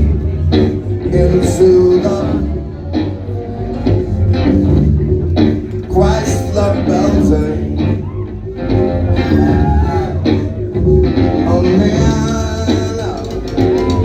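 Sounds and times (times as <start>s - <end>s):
drums: 0.0s - 14.0s
heavy bass line: 0.0s - 14.0s
live band music: 0.0s - 14.0s.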